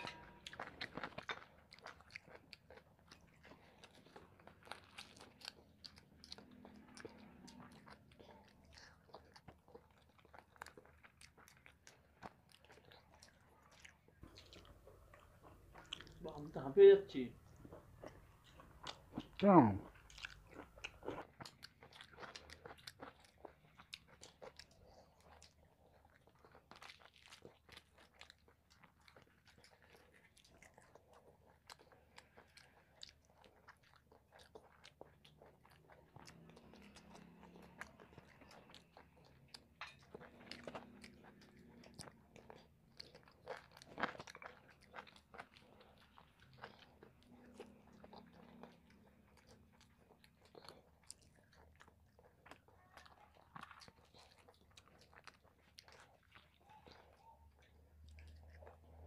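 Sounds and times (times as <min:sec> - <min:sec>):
people chewing and smacking: 0:00.0 - 0:59.0.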